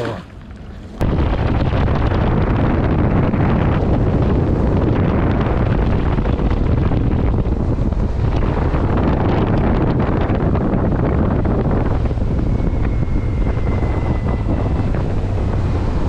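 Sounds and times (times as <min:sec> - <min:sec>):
boat engine: 0:00.0 - 0:16.0
water noise: 0:00.0 - 0:16.0
wind rumble on microphone: 0:00.0 - 0:16.0.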